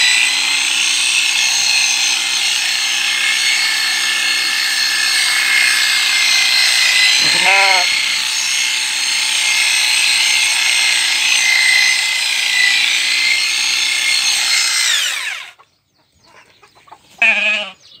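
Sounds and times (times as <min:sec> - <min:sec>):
electric clipper whining: 0:00.0 - 0:15.6.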